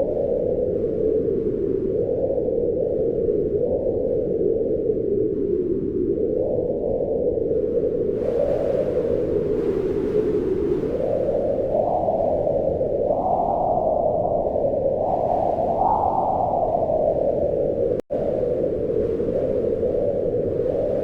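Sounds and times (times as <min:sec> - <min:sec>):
wind howling: 0:00.0 - 0:21.0.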